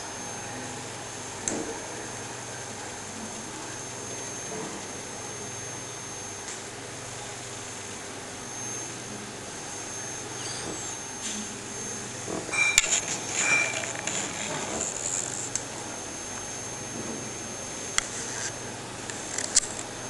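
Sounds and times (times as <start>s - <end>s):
high whine: 0.0s - 20.0s.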